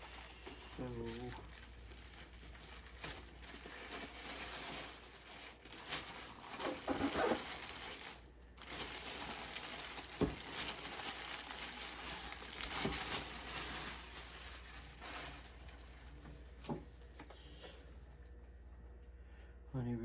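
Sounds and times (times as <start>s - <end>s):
packaging rustling and crinkling: 0.0s - 16.7s.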